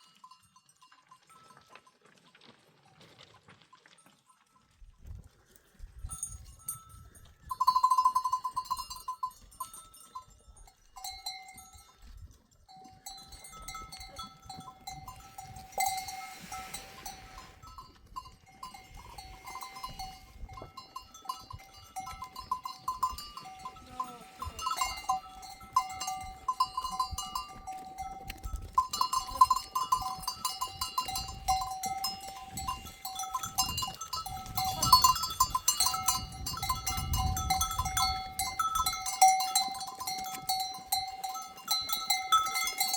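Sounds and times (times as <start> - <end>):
livestock bells jingling: 0.0 - 2.4, 5.8 - 42.9.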